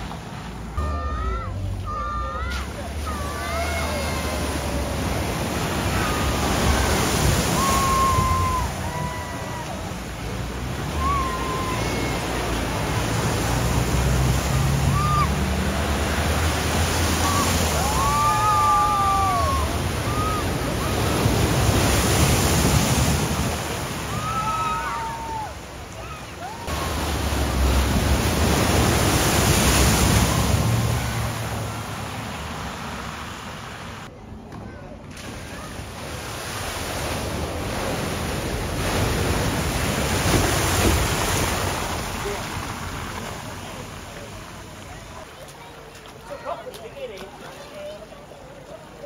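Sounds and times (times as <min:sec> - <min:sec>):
floodwater rushing: 0:00.0 - 0:34.1, 0:35.0 - 0:49.0
vehicle splashing through water: 0:00.0 - 0:34.1, 0:35.1 - 0:49.0.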